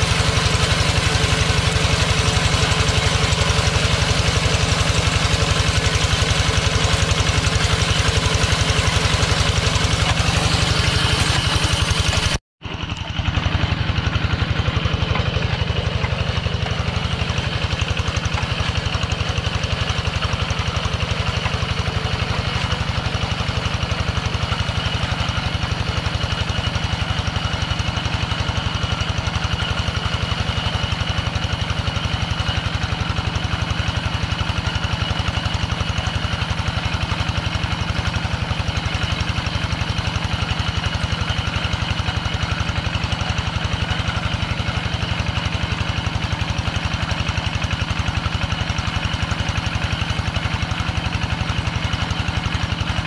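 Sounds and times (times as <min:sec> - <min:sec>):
diesel engine chugging: 0:00.0 - 0:53.0
wheels churning through water: 0:00.0 - 0:53.0.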